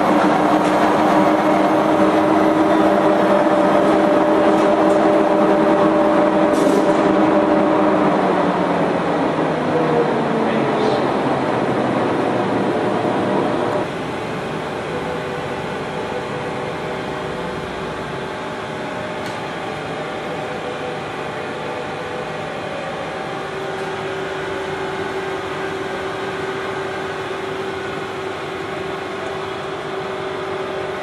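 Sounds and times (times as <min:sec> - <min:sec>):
machinery humming and whirring: 0:00.0 - 0:31.0.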